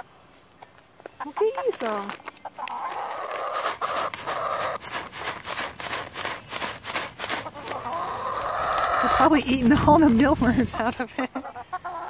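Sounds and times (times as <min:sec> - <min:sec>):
hens pecking taps: 0:00.6 - 0:10.8.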